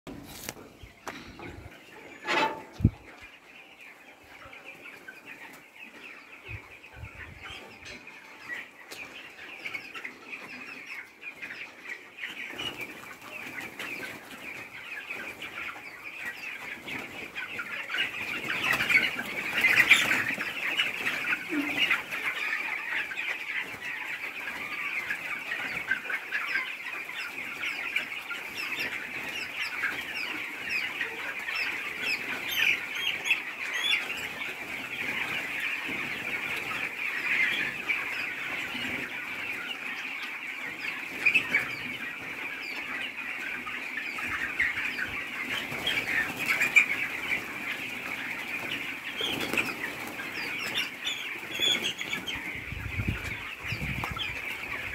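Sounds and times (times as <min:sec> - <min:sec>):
chicks peeping and cheeping: 0:00.1 - 0:54.9.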